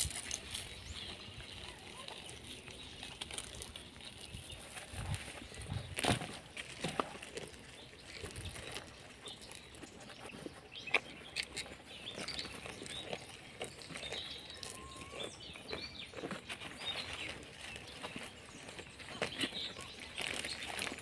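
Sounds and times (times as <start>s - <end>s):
animals stepping on dry leaves: 0.0s - 21.0s
birds chirping: 0.0s - 21.0s.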